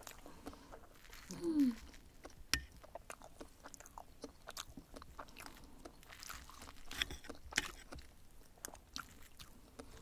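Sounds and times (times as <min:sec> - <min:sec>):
wet chewing: 0:00.0 - 0:10.0.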